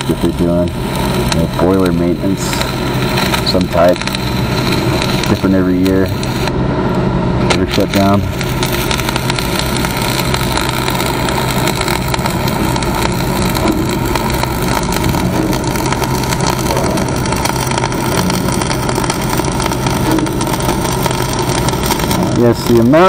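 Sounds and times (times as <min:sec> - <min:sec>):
steady engine hum: 0:00.0 - 0:23.0
welding arc crackling and sizzling: 0:00.0 - 0:23.0.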